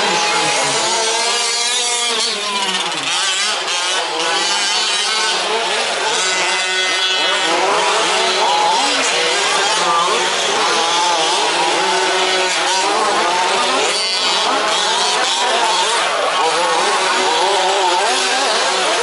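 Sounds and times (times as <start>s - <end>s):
model truck engines revving: 0.0s - 19.0s.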